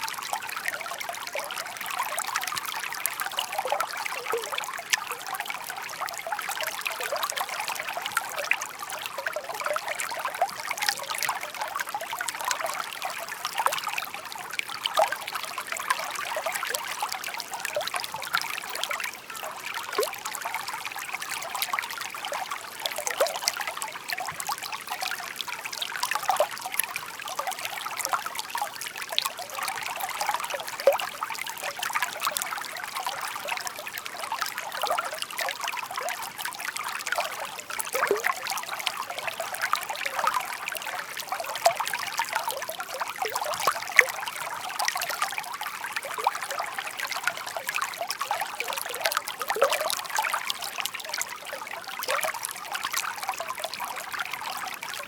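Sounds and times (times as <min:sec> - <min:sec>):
babbling stream trickling: 0:00.0 - 0:55.0.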